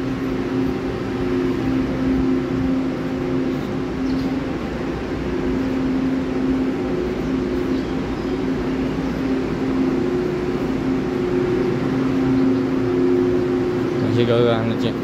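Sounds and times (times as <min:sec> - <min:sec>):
electric train equipment humming: 0:00.0 - 0:15.0.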